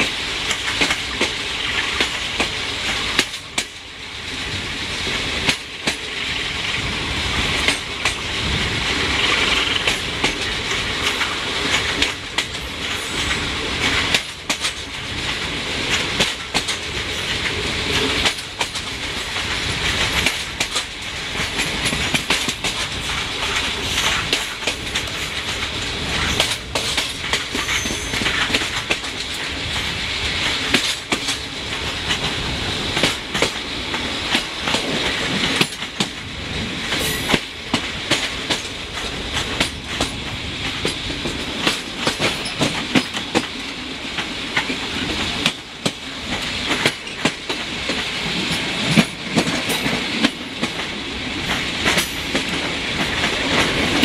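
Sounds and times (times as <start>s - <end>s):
train wheels rolling on rail: 0.0s - 54.0s
wheels clicking over rail joints: 0.0s - 54.0s.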